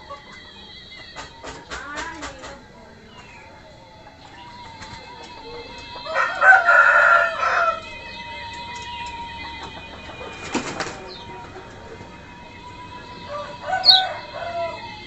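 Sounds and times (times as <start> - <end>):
rooster crowing: 0.0 - 15.0.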